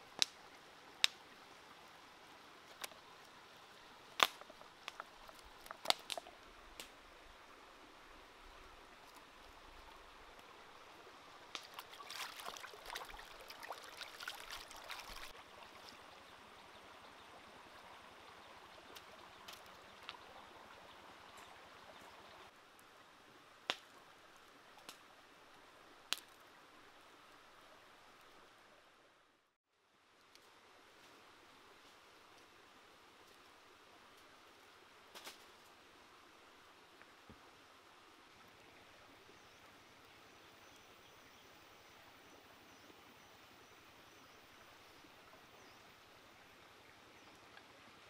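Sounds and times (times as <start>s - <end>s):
stream trickling over rocks: 0.0s - 29.1s, 30.0s - 48.0s.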